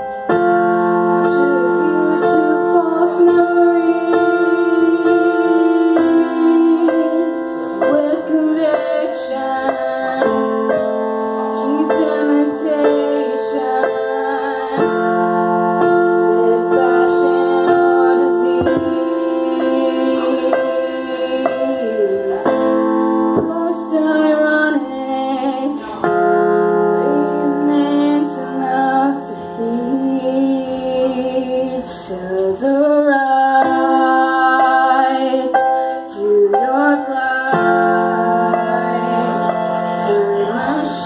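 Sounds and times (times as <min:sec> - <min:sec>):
electric keyboard chords: 0:00.0 - 0:41.0
woman singing a slow song: 0:00.8 - 0:41.0.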